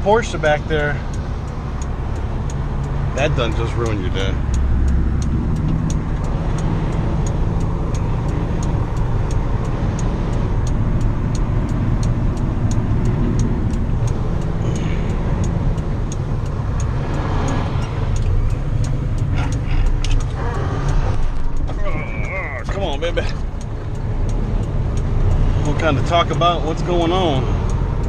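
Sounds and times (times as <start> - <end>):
diesel truck engine running: 0.0 - 28.0
fast regular ticking: 0.0 - 28.0.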